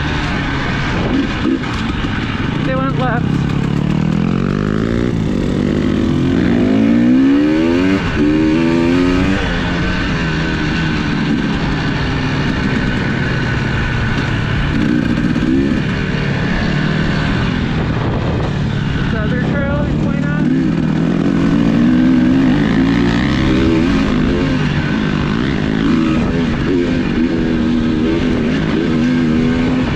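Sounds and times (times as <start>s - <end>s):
off-road vehicle engine revving: 0.0s - 29.9s.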